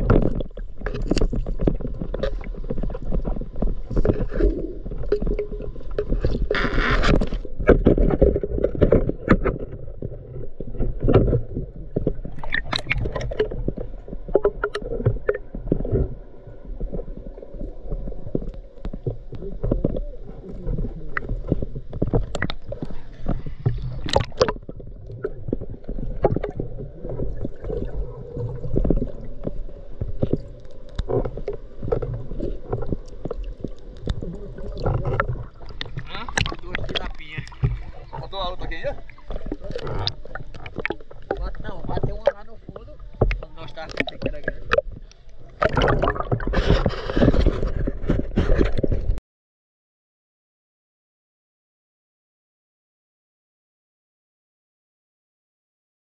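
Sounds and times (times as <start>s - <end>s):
muffled underwater rumble: 0.0s - 49.2s.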